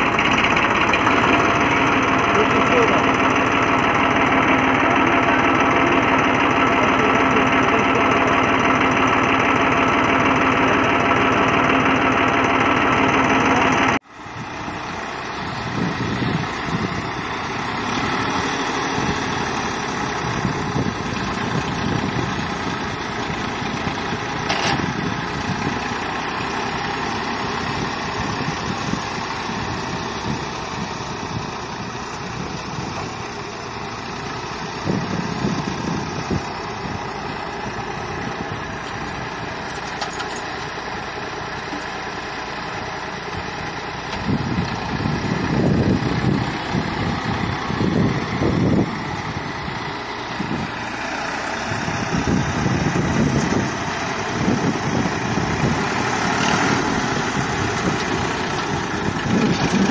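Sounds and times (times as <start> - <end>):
tractor engine idling: 0.0 - 59.9
tractor engine working front loader: 0.0 - 59.9.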